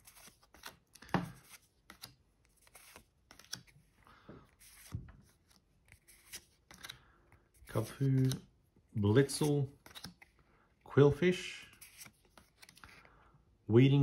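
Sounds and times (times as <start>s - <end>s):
cards sliding: 0.0s - 8.5s, 9.1s - 10.4s, 11.6s - 13.1s.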